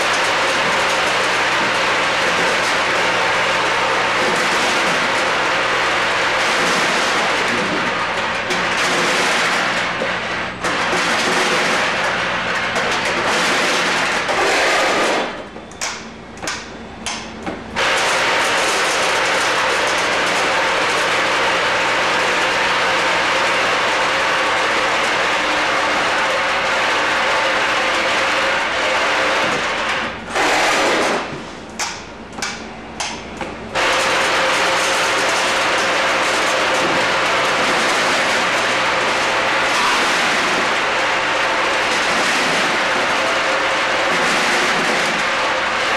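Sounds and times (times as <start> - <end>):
packaging machine running: 0.0 - 45.9
steady motor hum: 0.0 - 45.9.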